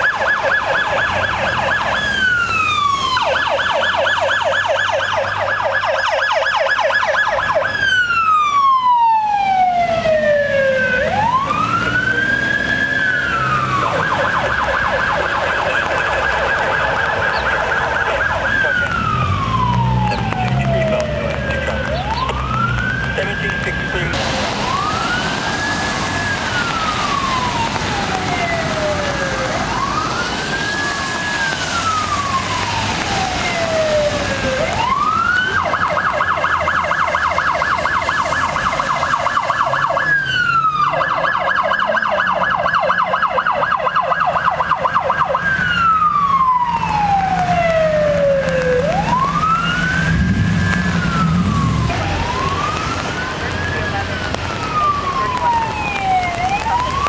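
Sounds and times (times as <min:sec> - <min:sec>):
emergency siren wailing and yelping: 0:00.0 - 0:57.0
traffic on a wet road: 0:00.0 - 0:57.0.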